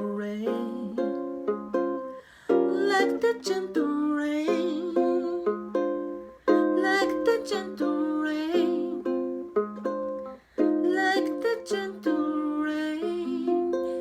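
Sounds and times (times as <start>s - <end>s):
ukulele playing bossa nova chords: 0.0s - 14.0s.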